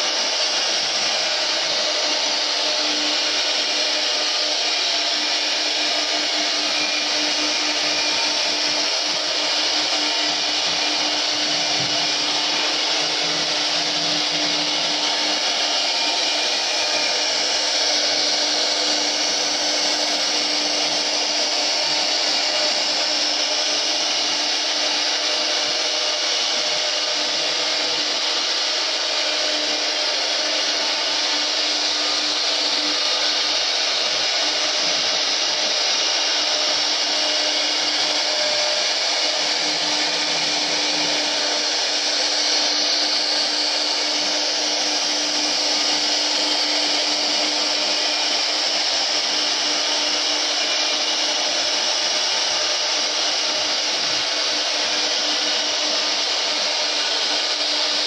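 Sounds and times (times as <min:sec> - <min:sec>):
router cutting wood: 0:00.0 - 0:58.0
router motor hum: 0:00.0 - 0:58.0.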